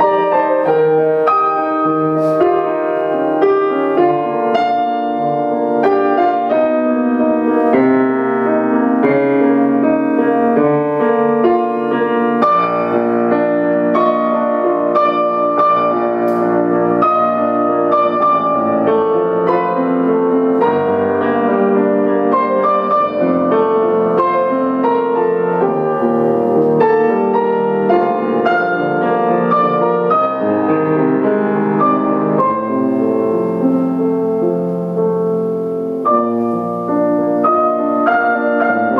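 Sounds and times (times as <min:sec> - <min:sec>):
solo grand piano playing: 0:00.0 - 0:38.9.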